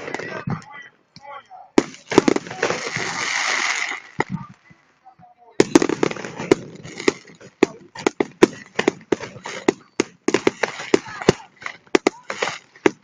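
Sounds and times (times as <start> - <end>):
fireworks crackling: 0.0 - 0.5, 1.8 - 5.0, 5.6 - 13.0
fireworks bangs: 0.0 - 0.6, 1.8 - 4.8, 5.6 - 13.0.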